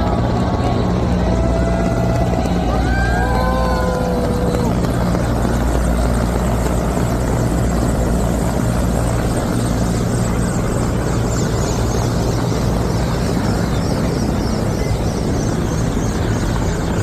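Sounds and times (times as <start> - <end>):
helicopter flying overhead: 0.0 - 17.0.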